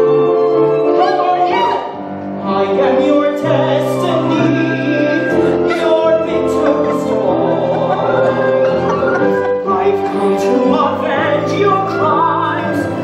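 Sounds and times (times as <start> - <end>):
instrumental accompaniment: 0.0 - 13.0
person singing operatically: 0.8 - 13.0.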